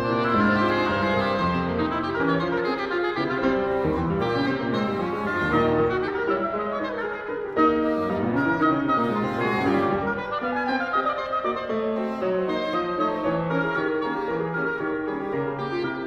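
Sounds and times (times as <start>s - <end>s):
english horn and clarinet melody: 0.0s - 16.0s
piano accompaniment: 0.0s - 16.0s.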